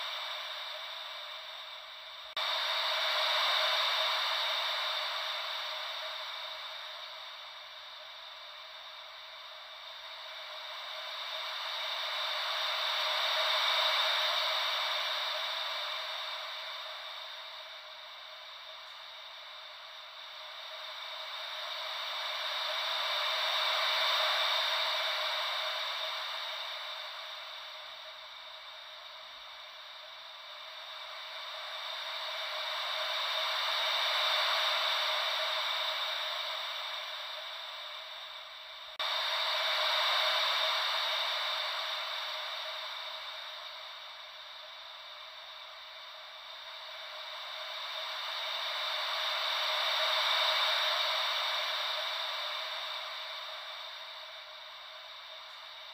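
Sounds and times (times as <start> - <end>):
ocean wave white noise: 0.0 - 55.9.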